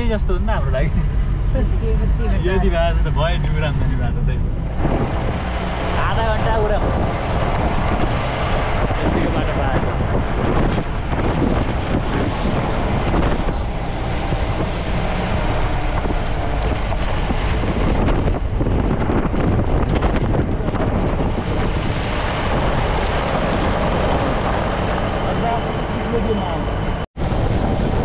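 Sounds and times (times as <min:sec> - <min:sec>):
vehicle engine and road noise: 0:00.0 - 0:28.0
wind buffeting microphone: 0:00.0 - 0:28.0.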